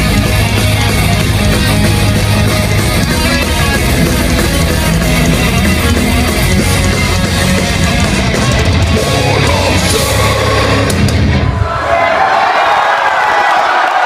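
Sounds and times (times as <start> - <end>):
death metal band playing: 0.0 - 11.8.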